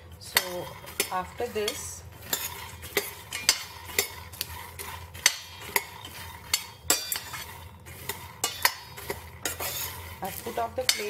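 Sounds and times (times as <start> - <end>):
spoon stirring peanuts in pan: 0.0 - 11.0.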